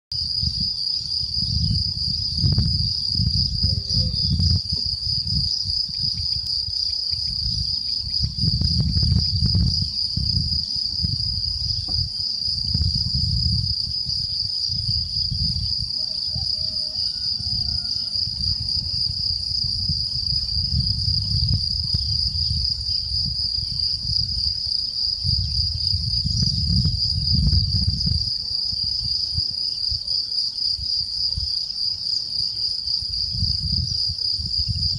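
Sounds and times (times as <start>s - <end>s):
crickets chirring: 0.1s - 34.9s
wind buffeting microphone: 0.2s - 32.1s, 32.8s - 34.9s.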